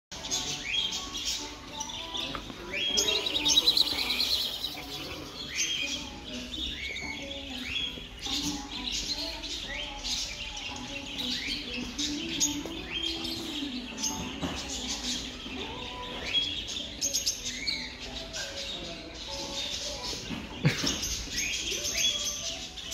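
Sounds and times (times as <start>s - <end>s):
finches chirping: 0.2s - 22.9s.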